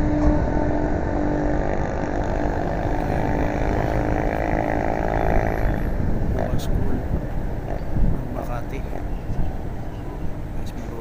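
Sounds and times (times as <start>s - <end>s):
rough low traffic rumble: 0.0s - 11.0s
vehicle engine running close: 0.0s - 11.0s.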